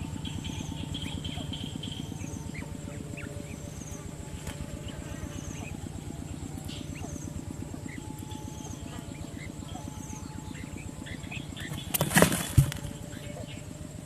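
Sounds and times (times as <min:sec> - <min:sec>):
faint high whine: 0:00.0 - 0:14.0
rapid low throbbing: 0:00.0 - 0:14.0.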